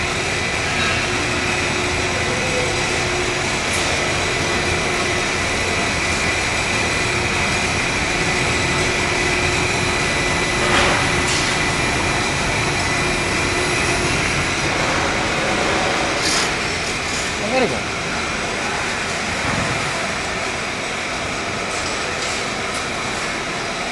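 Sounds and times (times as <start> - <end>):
fabric compactor humming: 0.0 - 23.9.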